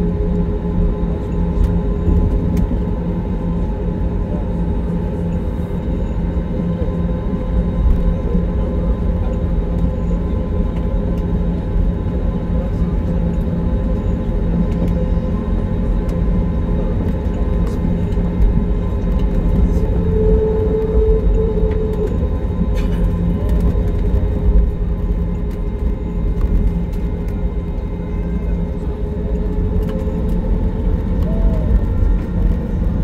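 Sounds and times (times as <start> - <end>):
jet engines humming at low power: 0.0 - 33.0.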